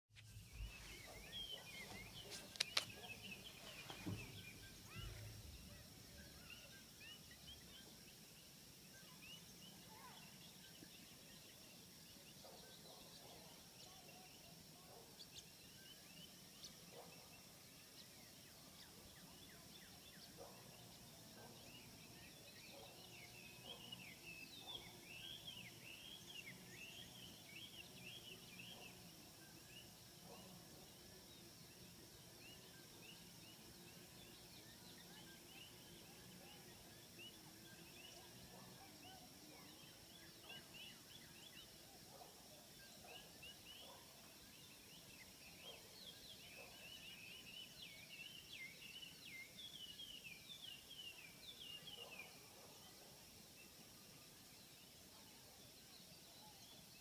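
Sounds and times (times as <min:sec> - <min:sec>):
wild birds chirping: 0:00.2 - 0:57.0.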